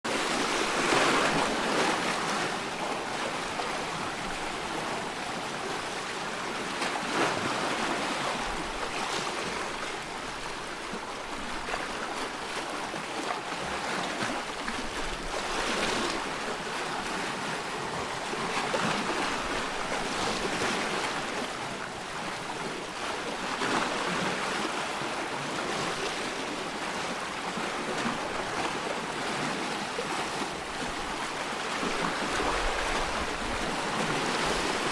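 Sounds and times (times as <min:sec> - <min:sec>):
sea waves breaking on rocks: 0:00.1 - 0:34.9.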